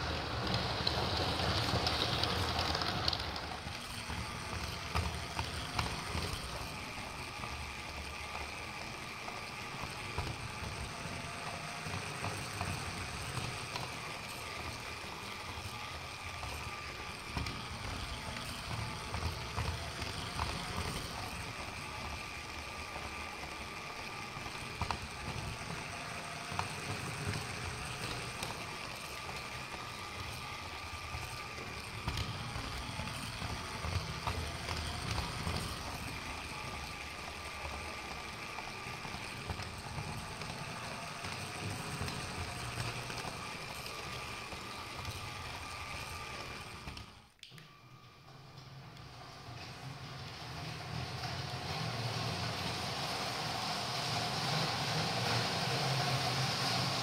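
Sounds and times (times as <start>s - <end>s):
wheels rumbling on track: 0.0s - 47.0s, 49.0s - 57.0s
toy train motor whine: 0.0s - 57.0s.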